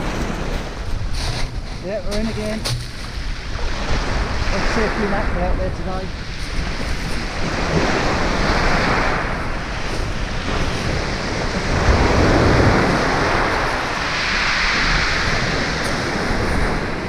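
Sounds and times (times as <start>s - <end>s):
sea waves washing onto beach: 0.0s - 17.0s
wind rumbling on microphone: 0.0s - 17.0s.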